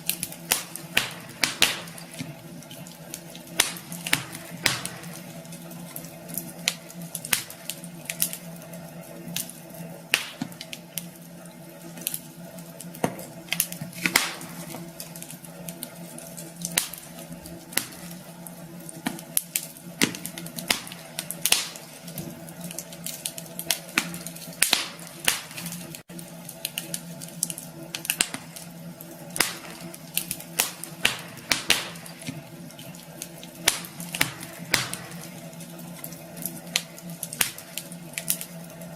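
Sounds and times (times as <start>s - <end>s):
steady low hum: 0.0s - 38.9s
wood fire crackling: 0.0s - 38.9s.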